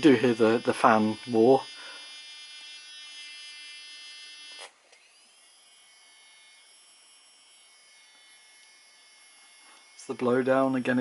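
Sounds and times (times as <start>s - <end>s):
small electric fan whining: 0.0s - 11.0s.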